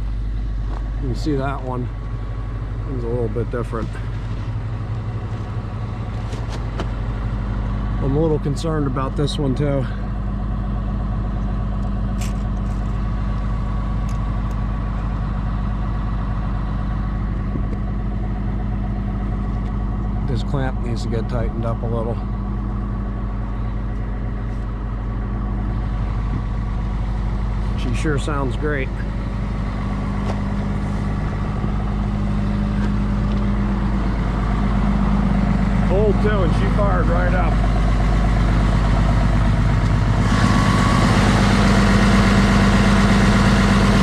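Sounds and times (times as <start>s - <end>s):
excavator diesel engine running: 0.0s - 44.0s.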